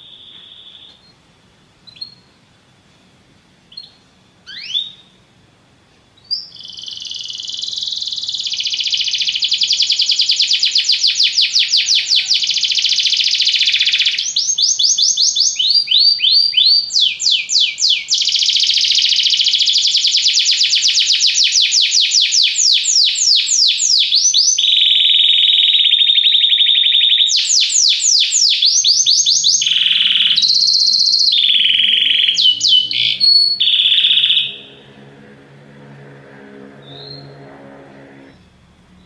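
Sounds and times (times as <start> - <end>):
faint low hum: 0.0 - 39.0
canary singing trills: 1.8 - 2.4, 3.7 - 5.2, 6.2 - 38.4.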